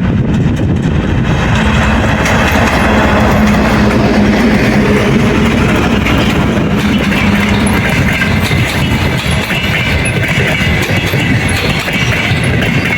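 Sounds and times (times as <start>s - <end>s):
locomotive droning hum: 0.0s - 12.9s
train wheels rumbling on rails: 0.0s - 12.9s.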